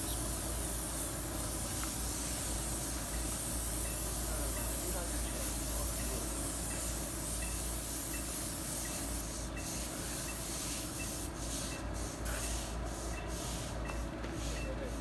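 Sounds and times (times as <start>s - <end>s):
paint spray gun hissing: 0.0s - 14.6s.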